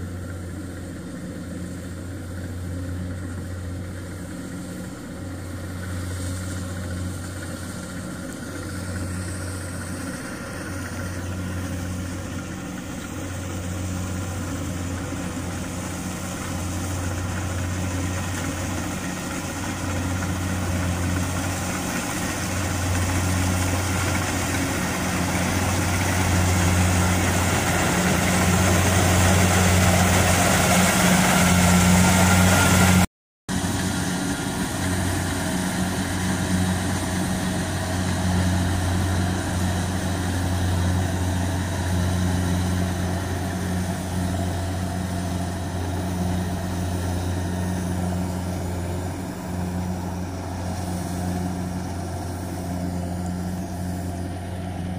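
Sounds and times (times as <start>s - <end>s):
combine harvester diesel engine: 0.0s - 54.9s.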